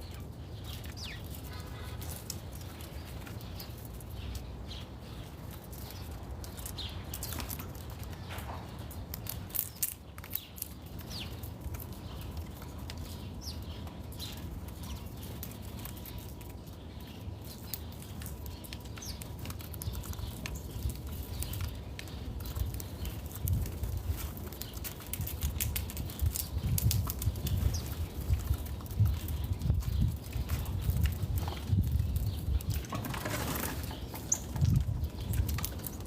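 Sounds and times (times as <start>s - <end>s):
small animals tapping and scrabbling: 0.0s - 36.0s.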